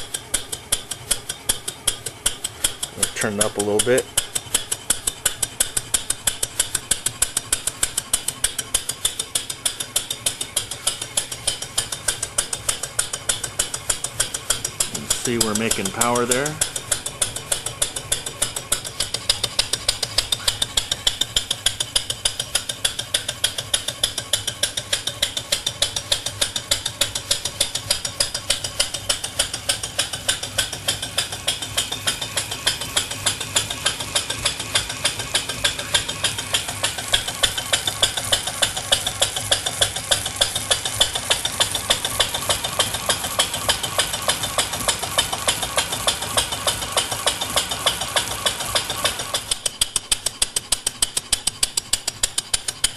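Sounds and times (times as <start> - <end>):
steam engine exhaust puffing: 0.0 - 52.9.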